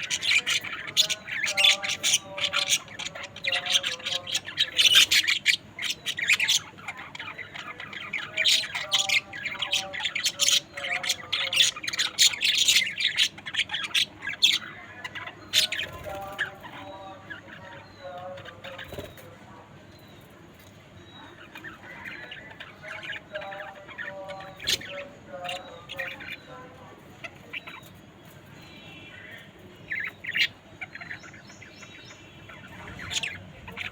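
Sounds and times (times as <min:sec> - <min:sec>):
budgerigars chirping: 0:00.0 - 0:33.9.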